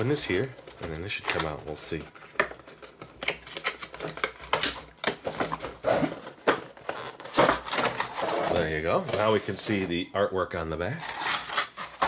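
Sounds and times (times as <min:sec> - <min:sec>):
packaging crinkling and rustling: 0:00.0 - 0:10.0, 0:11.0 - 0:12.0.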